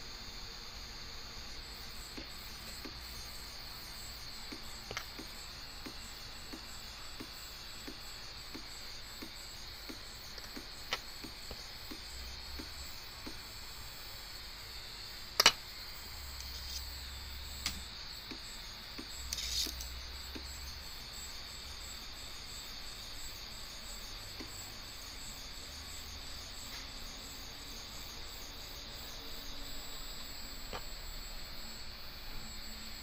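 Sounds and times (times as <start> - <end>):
stepper motor whine with ticks: 0.0 - 33.0.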